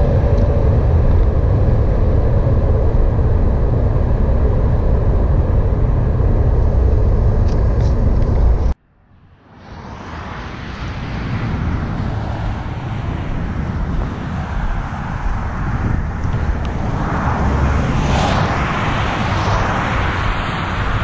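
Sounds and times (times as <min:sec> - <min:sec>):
wind buffeting microphone: 0:00.0 - 0:08.8, 0:09.6 - 0:21.0.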